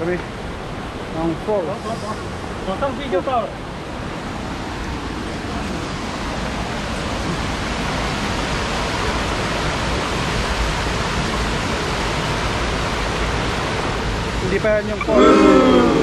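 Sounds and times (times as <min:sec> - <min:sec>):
mountain stream rushing over boulders: 0:00.0 - 0:16.0.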